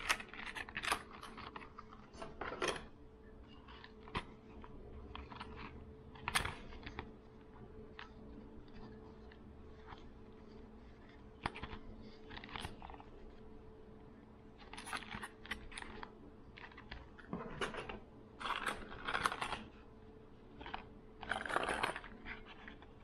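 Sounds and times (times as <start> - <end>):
plastic blister packs clicking and crinkling: 0.0 - 13.5, 14.6 - 19.8, 20.5 - 23.0.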